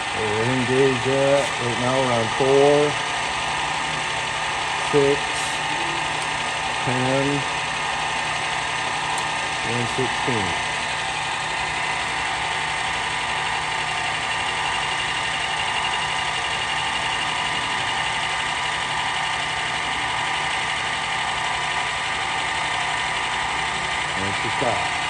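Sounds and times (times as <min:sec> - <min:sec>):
drill press running: 0:00.0 - 0:25.0
mechanical whine from gearing: 0:00.0 - 0:25.0.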